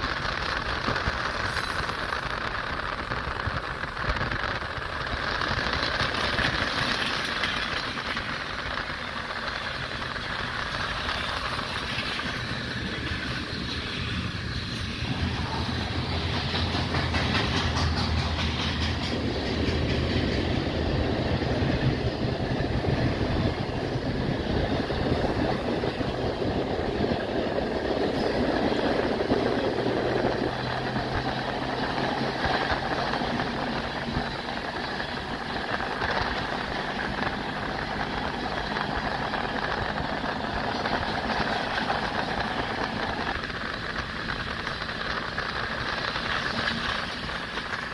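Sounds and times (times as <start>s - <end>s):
freight train rolling on rails: 0.0s - 47.9s.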